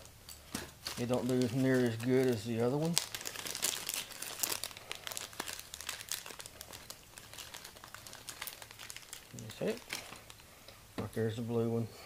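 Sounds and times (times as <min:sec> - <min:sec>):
plastic bags crinkling: 0:00.0 - 0:10.5.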